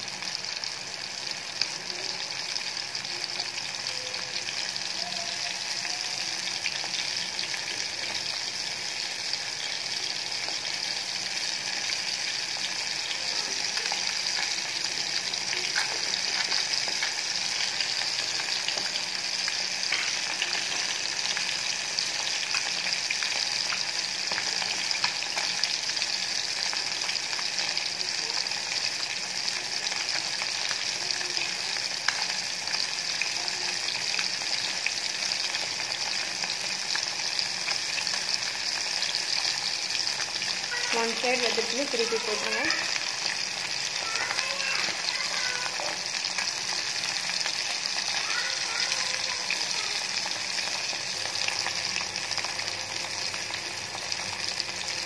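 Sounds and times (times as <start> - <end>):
fish frying in oil: 0.0 - 55.0.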